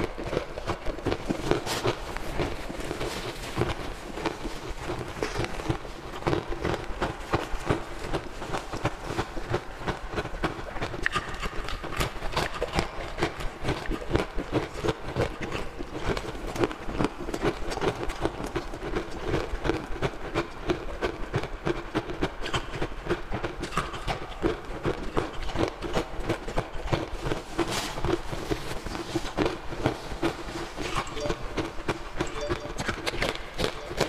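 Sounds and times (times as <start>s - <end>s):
ice crunching in mouth: 0.0s - 34.0s.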